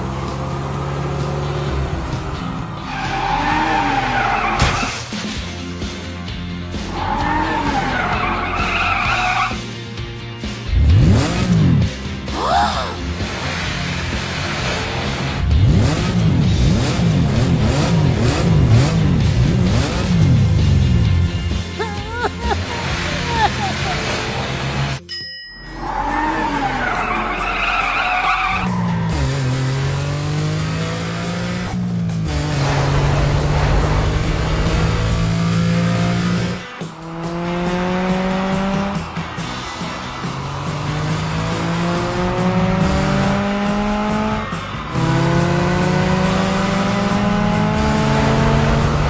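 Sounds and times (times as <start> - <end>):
background music: 0.0 - 49.0
cartoon car tyres screeching: 0.7 - 5.6, 6.8 - 9.8, 10.7 - 21.0, 21.9 - 25.0, 25.8 - 49.0.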